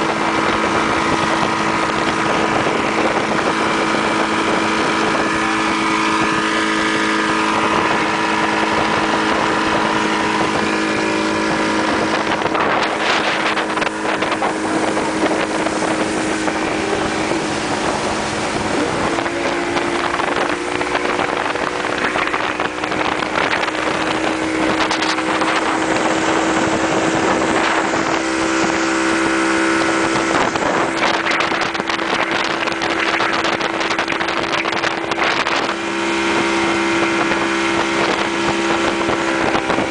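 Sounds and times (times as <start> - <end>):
motorboat engine running: 0.0 - 39.9
rushing water: 0.0 - 39.9
wind buffeting microphone: 0.0 - 39.9.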